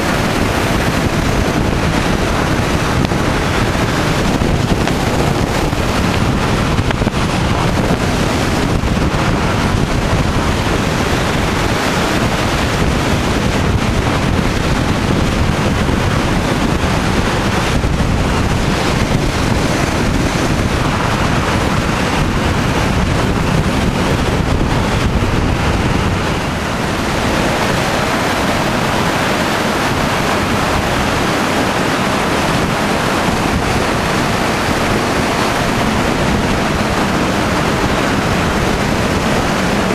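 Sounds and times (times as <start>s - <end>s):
car tyre and road noise: 0.0s - 39.9s
wind buffeting microphone: 0.0s - 39.9s.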